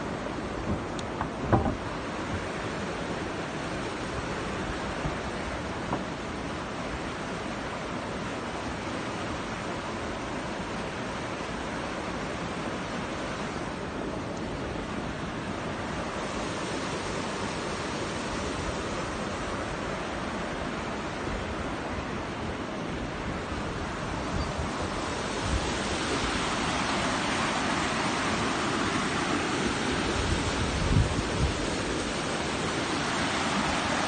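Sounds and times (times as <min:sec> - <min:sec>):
river water rushing: 0:00.0 - 0:34.0
wind rumble on microphone: 0:00.0 - 0:34.0.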